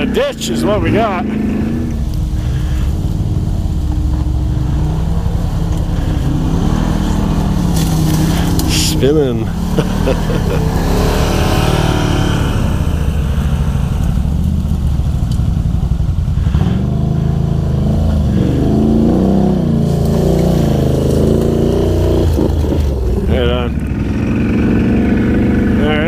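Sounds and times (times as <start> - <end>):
atv engines revving: 0.0 - 26.0.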